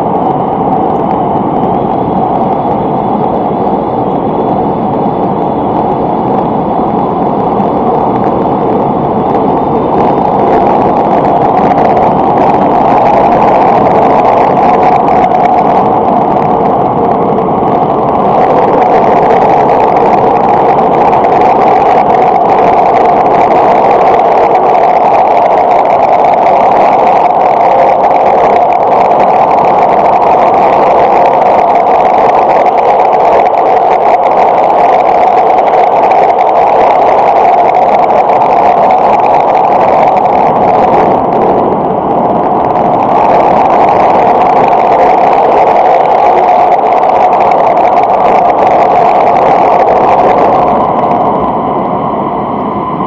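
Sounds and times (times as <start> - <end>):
train wheel-on-rail noise: 0.0 - 53.0.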